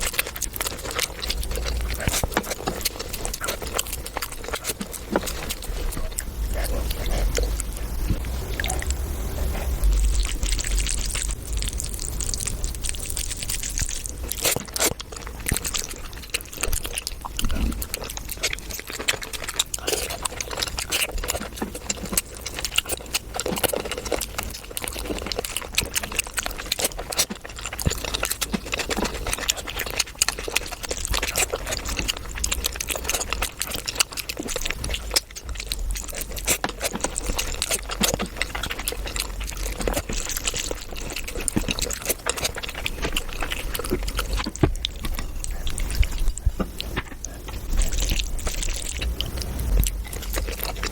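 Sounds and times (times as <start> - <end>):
wet chewing: 0.0 - 50.9.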